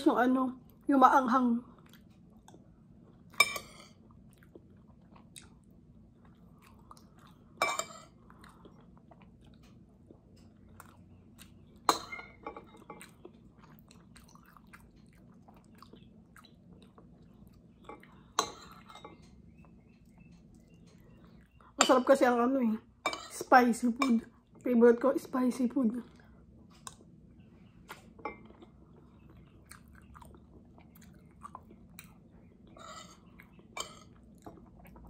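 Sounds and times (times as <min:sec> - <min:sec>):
person chewing food: 0:01.7 - 0:21.8, 0:26.1 - 0:35.0.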